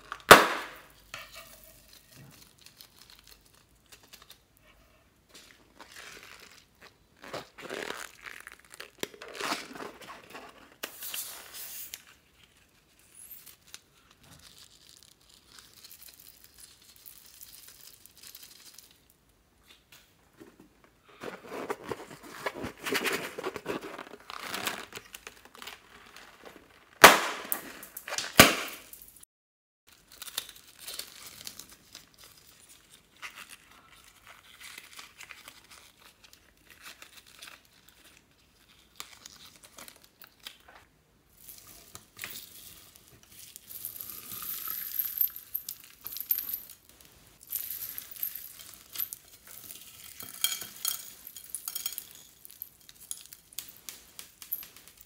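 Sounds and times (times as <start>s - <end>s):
balloons crinkling and rustling: 0.0s - 29.1s, 29.9s - 55.0s.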